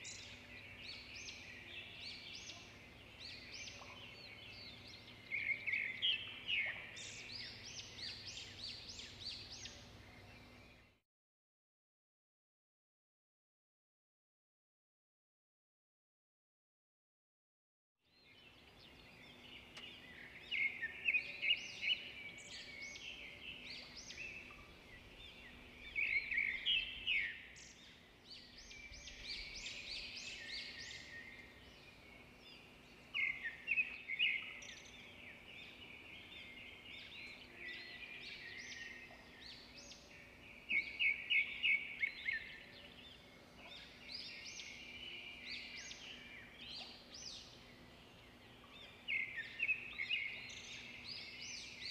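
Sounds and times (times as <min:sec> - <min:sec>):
small birds chirping: 0:00.0 - 0:11.0, 0:18.1 - 0:51.9.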